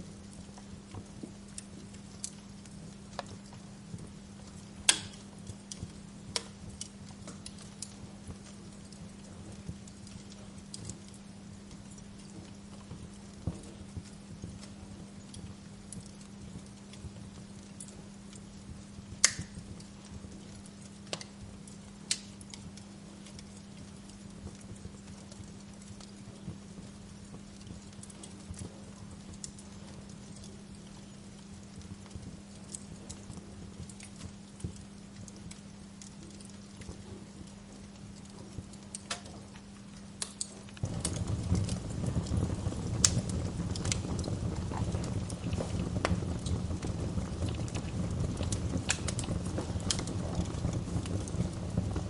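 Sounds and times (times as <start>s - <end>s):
low steady hum: 0.0s - 52.0s
soft hiss: 0.0s - 52.0s
wood fire crackling: 0.0s - 52.0s.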